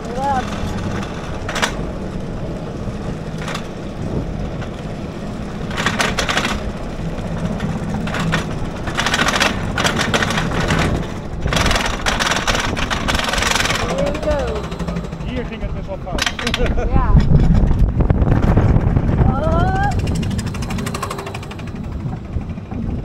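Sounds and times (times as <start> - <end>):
roller coaster chain lift clattering: 0.0 - 23.0.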